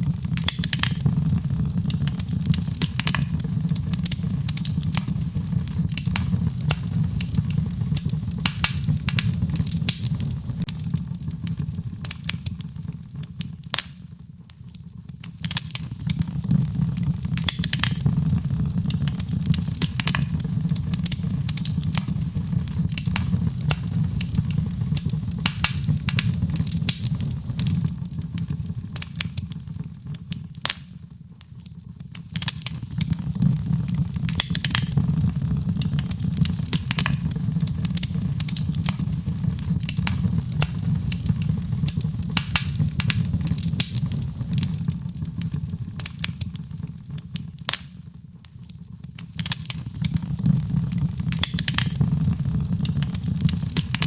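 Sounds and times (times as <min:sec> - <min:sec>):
fireplace fire crackling and popping: 0:00.0 - 0:54.0
low rumble of flames: 0:00.0 - 0:54.0.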